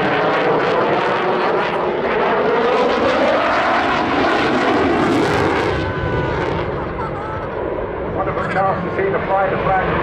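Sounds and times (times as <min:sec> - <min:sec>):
fighter jet engines roaring: 0:00.0 - 0:10.0.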